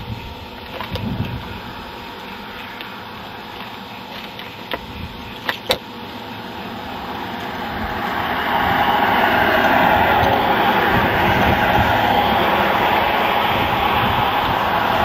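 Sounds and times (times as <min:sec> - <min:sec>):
vehicle tyre and road noise: 0:00.0 - 0:15.0.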